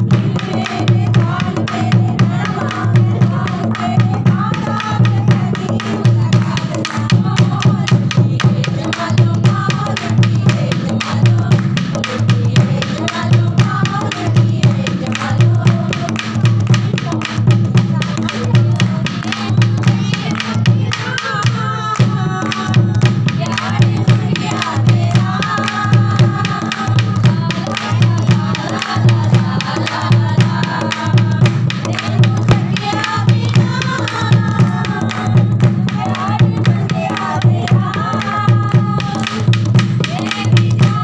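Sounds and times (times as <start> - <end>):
hand drum rhythm: 0.0 - 41.0
voices singing: 0.0 - 41.0.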